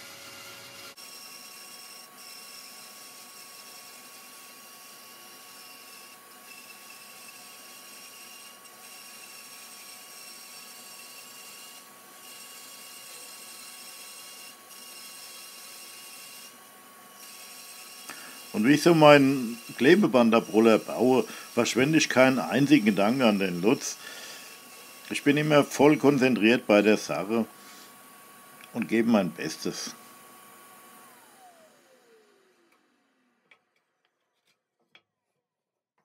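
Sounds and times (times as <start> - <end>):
bandsaw cutting wood: 0.0 - 28.0, 28.6 - 33.3.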